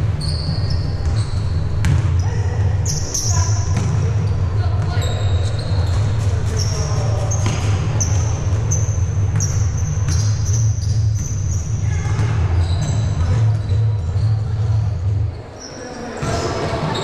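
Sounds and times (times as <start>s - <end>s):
basketball bouncing: 0.0s - 2.3s, 2.9s - 15.2s
sneakers squeaking on court: 0.0s - 17.0s.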